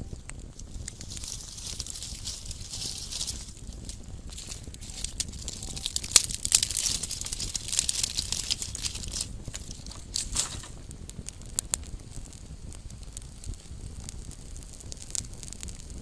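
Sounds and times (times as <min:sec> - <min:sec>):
campfire crackling and popping: 0:00.0 - 0:16.0
soft fire hiss: 0:00.0 - 0:16.0.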